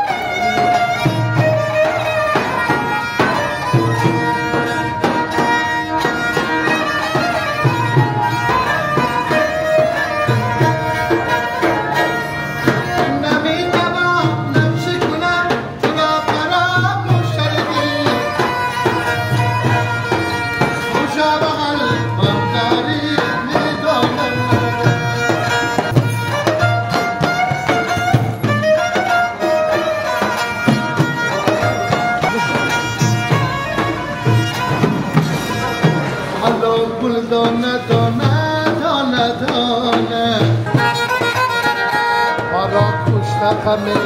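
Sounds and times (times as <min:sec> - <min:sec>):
bowed fiddle melody: 0:00.0 - 0:44.0
frame drum beats: 0:00.0 - 0:44.0.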